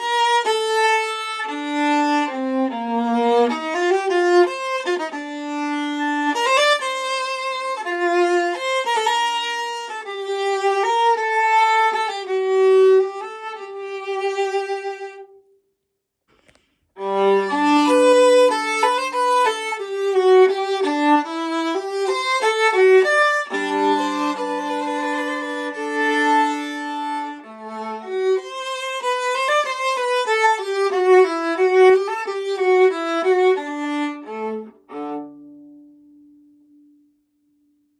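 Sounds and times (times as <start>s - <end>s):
bowed viola melody: 0.0s - 15.6s, 16.9s - 37.0s.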